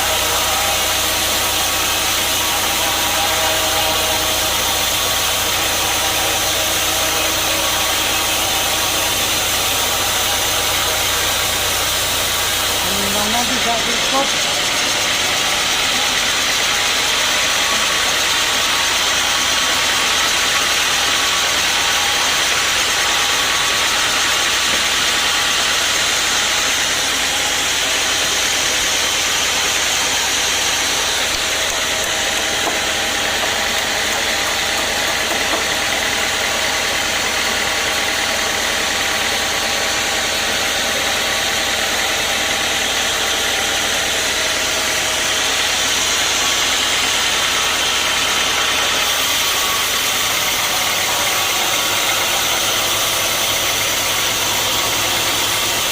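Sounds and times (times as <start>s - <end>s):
sawmill machinery drone: 0.0s - 55.9s.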